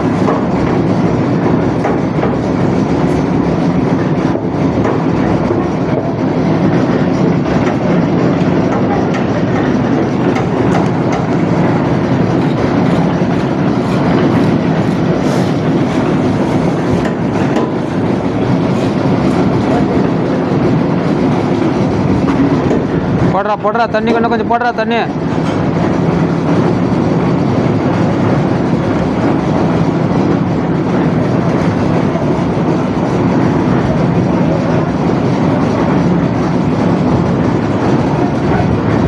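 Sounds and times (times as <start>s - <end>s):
concrete mixer running: 0.0s - 39.0s.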